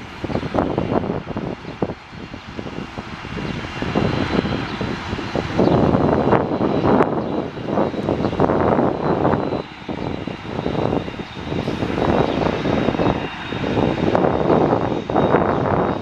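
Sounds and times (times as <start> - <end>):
jet engines rumbling: 0.0 - 16.0
thin high whine: 0.0 - 16.0.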